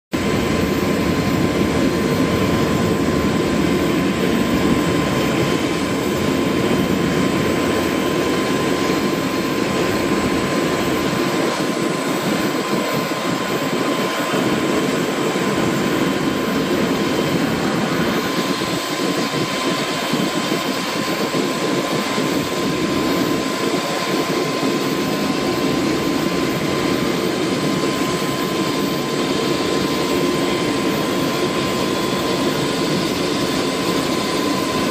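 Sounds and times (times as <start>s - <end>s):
helicopter rotor and exhaust rush: 0.1s - 34.9s
helicopter turbine whine: 0.1s - 34.9s.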